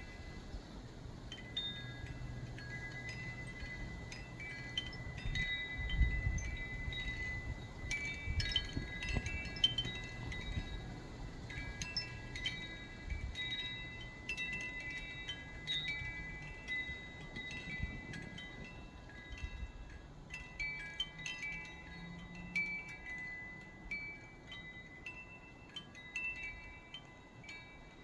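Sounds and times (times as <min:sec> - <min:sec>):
wind chimes ringing: 0:00.0 - 0:28.0.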